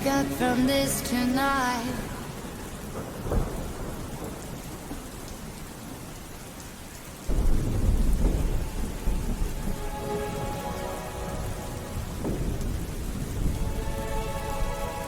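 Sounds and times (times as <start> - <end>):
thunder rumbling: 0.0 - 6.2, 7.2 - 15.0
steady rain falling: 0.0 - 15.0.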